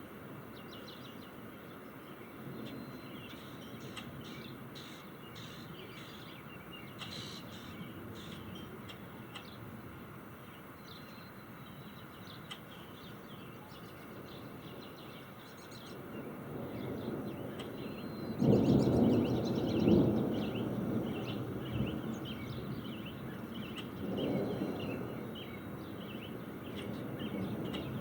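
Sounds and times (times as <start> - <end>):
birds chirping: 0.6 - 28.0.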